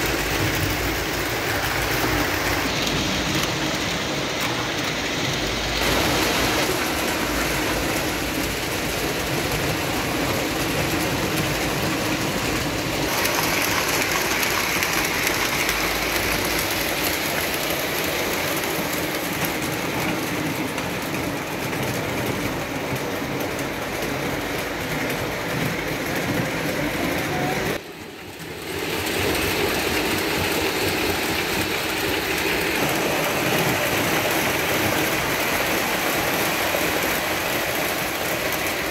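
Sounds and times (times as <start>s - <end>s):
model train rumbling on track: 0.0s - 38.9s.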